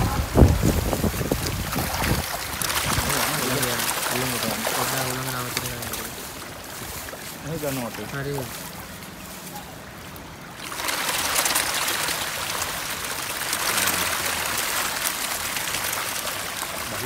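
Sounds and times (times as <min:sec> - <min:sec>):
fish thrashing and splashing: 0:00.0 - 0:17.0.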